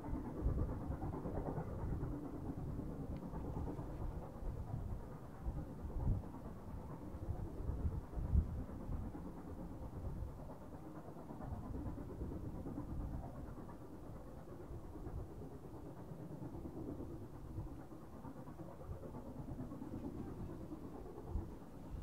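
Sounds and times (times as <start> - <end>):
distant steam locomotive rumble: 0.0 - 22.0
wind buffeting microphone: 0.0 - 22.0.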